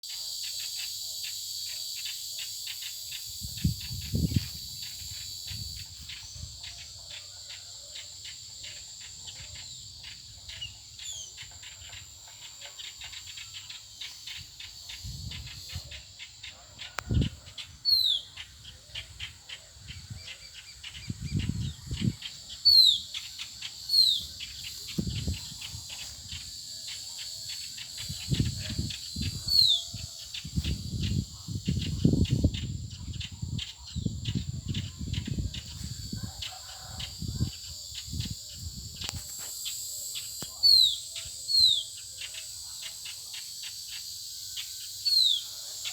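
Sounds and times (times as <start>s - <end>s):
high-pitched insect drone: 0.1s - 45.9s.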